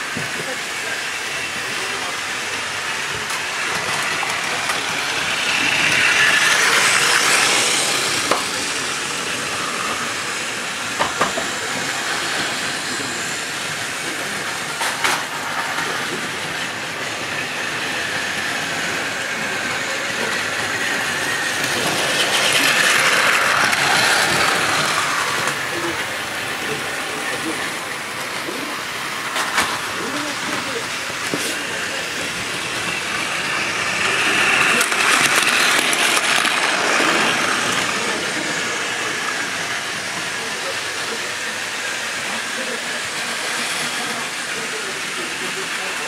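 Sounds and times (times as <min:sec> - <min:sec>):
toy train motors whirring: 0:00.0 - 0:46.0.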